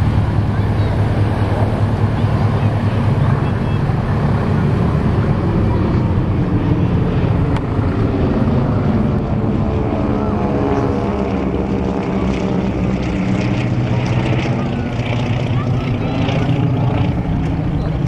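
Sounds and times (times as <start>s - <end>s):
propeller planes flying overhead: 0.0s - 18.0s.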